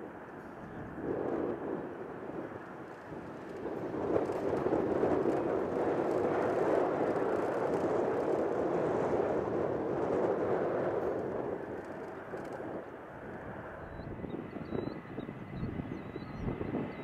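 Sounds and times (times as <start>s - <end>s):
jet engine rushing: 0.0s - 17.0s.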